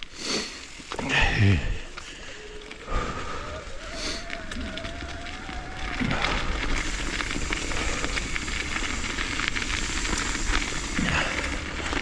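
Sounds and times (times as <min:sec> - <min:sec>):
bike rattling: 0:00.0 - 0:12.0
bike tyres crunching on gravel: 0:00.0 - 0:12.0.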